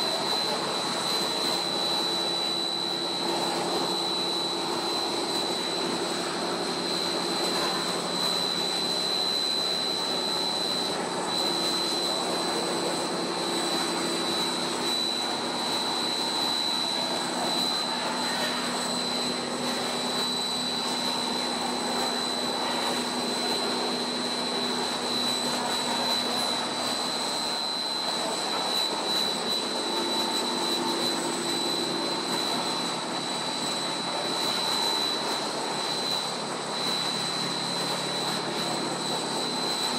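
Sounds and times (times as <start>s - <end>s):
high-pitched whine: 0.0s - 39.9s
machine drone: 0.0s - 39.9s.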